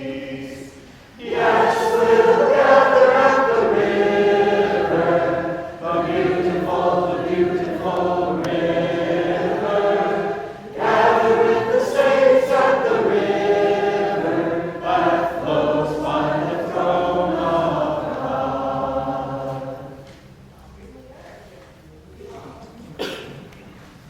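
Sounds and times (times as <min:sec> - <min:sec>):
group of people singing: 0:00.0 - 0:20.2.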